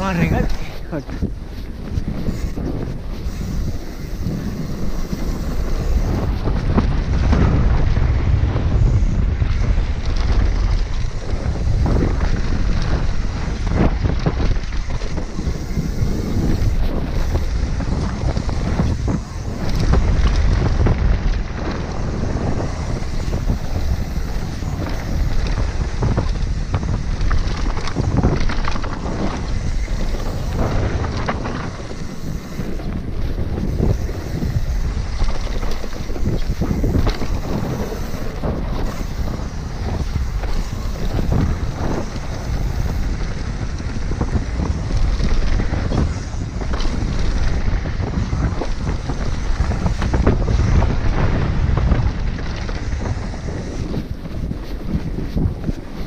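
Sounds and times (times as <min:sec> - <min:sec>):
bike knocks and rattles: 0:00.0 - 0:56.0
tyre noise on dirt: 0:00.0 - 0:56.0
wind rushing over microphone: 0:00.0 - 0:56.0.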